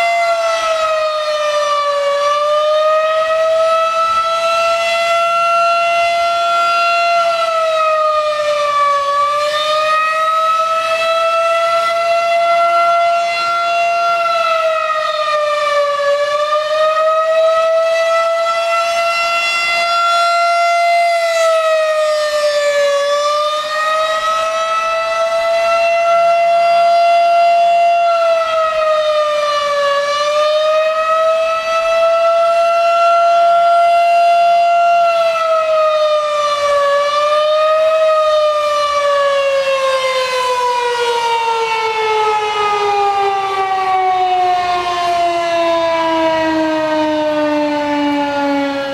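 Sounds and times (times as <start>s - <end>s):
warning siren wailing: 0.0s - 48.9s.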